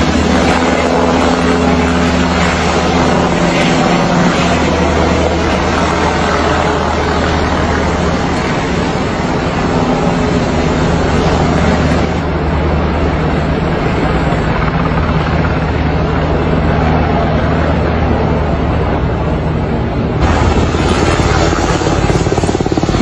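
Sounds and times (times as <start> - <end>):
helicopter drone: 0.0 - 23.0.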